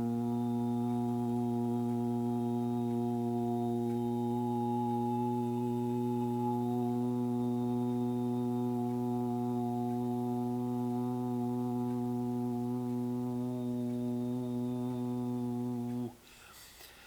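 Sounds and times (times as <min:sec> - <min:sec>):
man's low vocal drone: 0:00.0 - 0:16.2.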